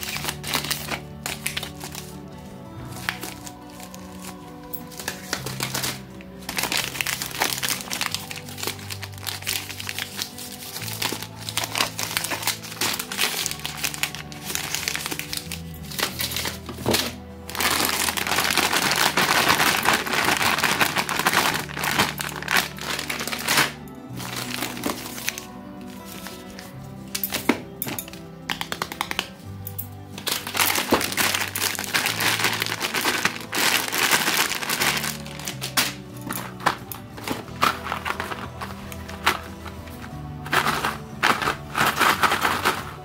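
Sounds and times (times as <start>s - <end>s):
background music with bass line: 0.0s - 43.0s
plastic wrappers crinkling: 0.0s - 43.0s.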